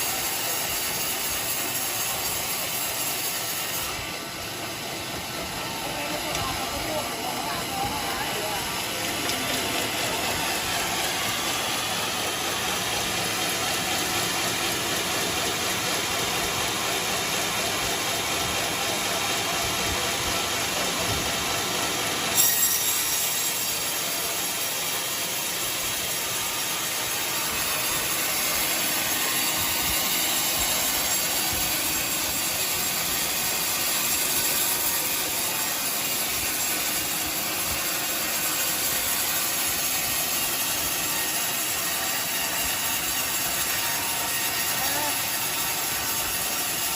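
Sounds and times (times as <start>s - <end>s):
sawmill saw cutting wood: 0.0s - 46.9s.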